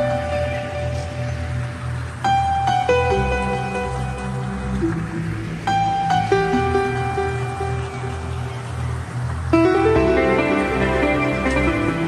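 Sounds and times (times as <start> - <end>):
low pulsing bass: 0.0 - 12.0.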